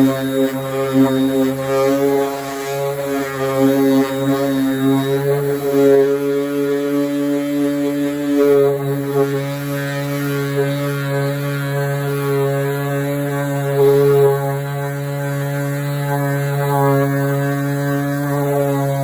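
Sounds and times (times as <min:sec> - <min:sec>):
electric power sander running: 0:00.0 - 0:19.0.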